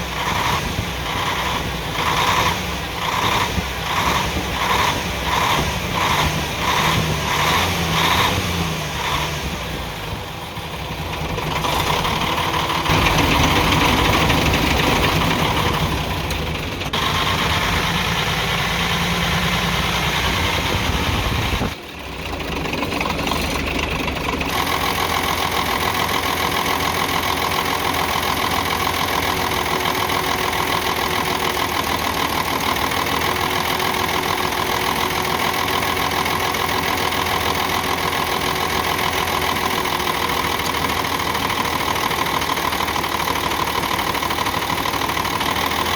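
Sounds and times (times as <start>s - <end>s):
misfiring diesel engine running: 0.0s - 45.9s.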